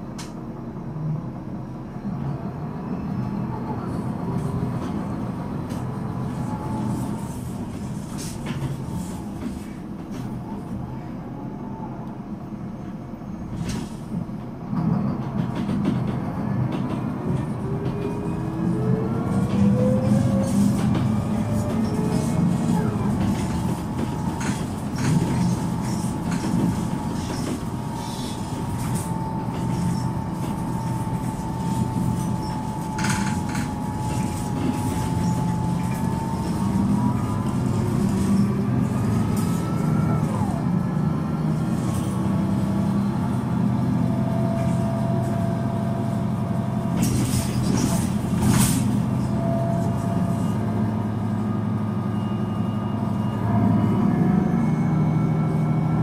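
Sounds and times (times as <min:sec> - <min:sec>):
diesel bus engine droning: 0:00.0 - 0:56.0.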